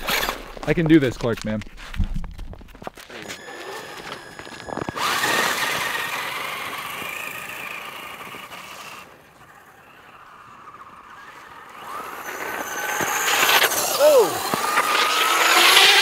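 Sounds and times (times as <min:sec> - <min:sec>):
toy truck motor whining: 0:00.0 - 0:00.5, 0:03.1 - 0:16.0.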